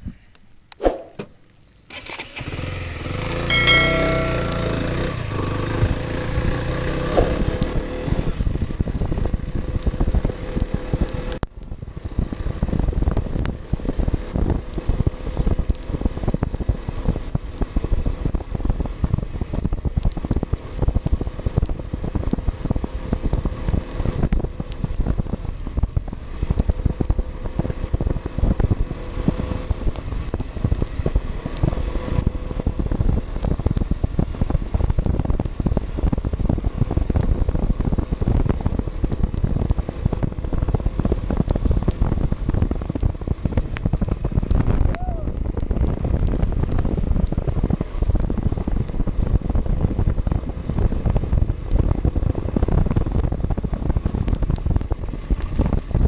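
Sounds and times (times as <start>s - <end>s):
motorcycle engine running: 2.3s - 56.0s
wind buffeting microphone: 3.6s - 56.0s.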